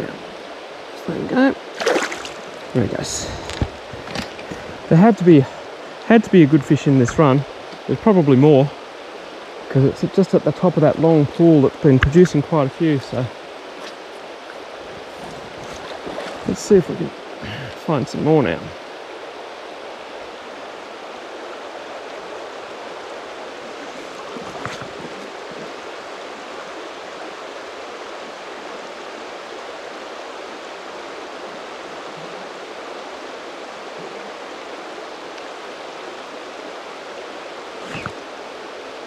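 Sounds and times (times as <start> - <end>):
river current rushing: 0.0 - 39.0.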